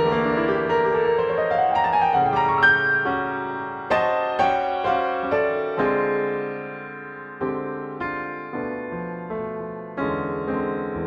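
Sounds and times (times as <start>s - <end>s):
soft piano tune: 0.0s - 11.0s.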